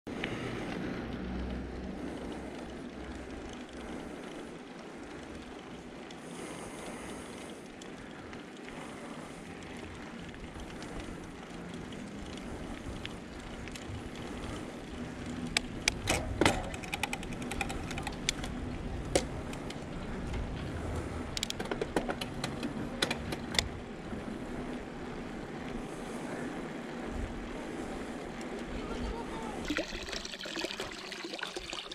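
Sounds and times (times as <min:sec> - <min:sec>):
bike clicks and rattles: 0:00.1 - 0:29.4
bike tyres rolling on asphalt: 0:00.1 - 0:31.9.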